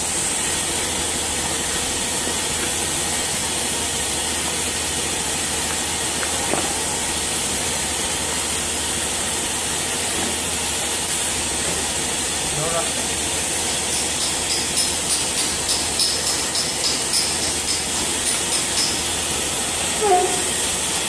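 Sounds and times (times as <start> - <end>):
hot air welder hissing: 0.0 - 21.0.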